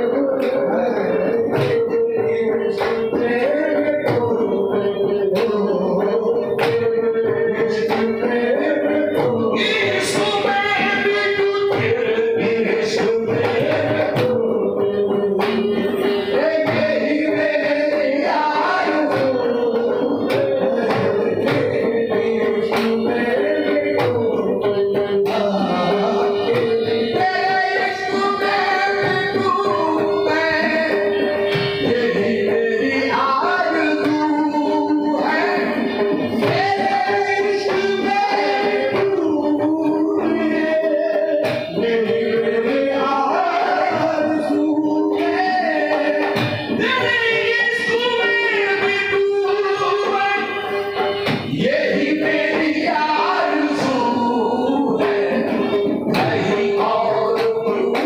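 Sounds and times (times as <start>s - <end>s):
voices singing: 0.0s - 58.0s.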